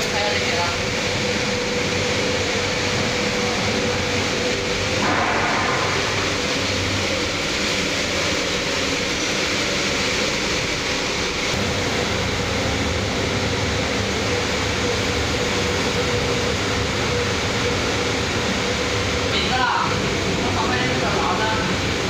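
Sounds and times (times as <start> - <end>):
stir-fry machines cooking: 0.0 - 22.0.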